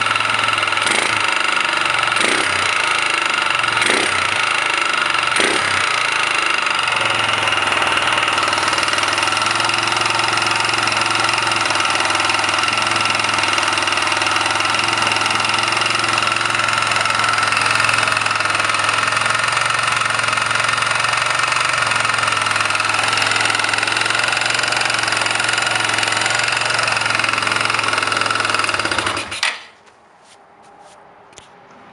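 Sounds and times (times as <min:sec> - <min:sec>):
atv engine running with knock: 0:00.0 - 0:29.7.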